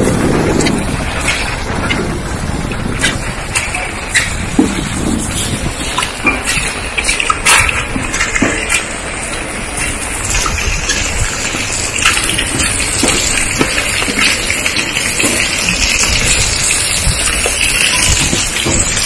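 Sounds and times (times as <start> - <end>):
close raindrop hits: 0.0 - 19.0
heavy rain hissing: 0.0 - 19.0.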